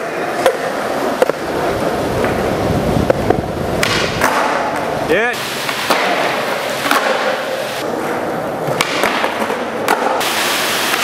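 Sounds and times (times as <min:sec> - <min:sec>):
skateboard clacks: 0:00.0 - 0:05.0, 0:05.6 - 0:10.3
skateboard grinding on concrete: 0:00.0 - 0:11.0
skateboard rolling on concrete: 0:00.0 - 0:11.0.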